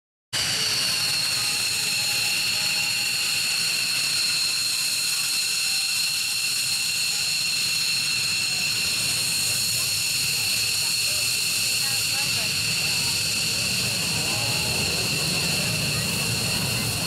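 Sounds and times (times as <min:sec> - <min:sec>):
high-pitched jet whine: 0:00.4 - 0:17.0.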